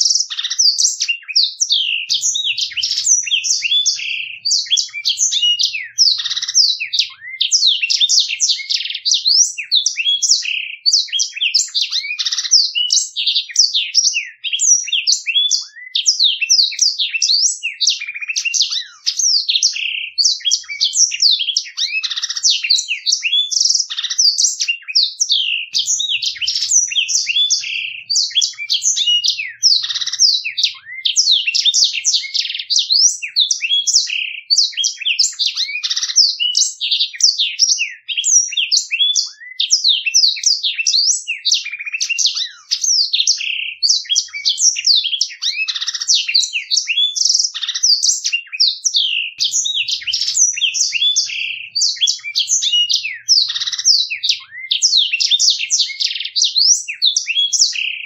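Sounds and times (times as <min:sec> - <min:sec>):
songbird twittering and trilling: 0:00.0 - 0:58.0.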